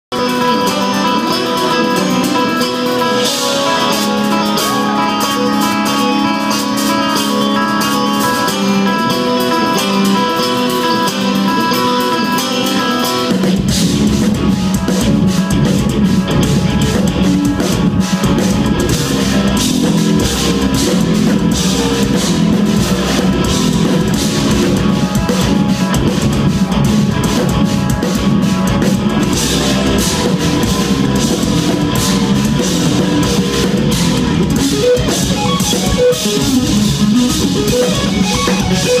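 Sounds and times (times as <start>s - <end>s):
drums: 0.0s - 39.0s
heavy low guitar: 0.1s - 39.0s
clean ringing guitar: 0.2s - 39.0s.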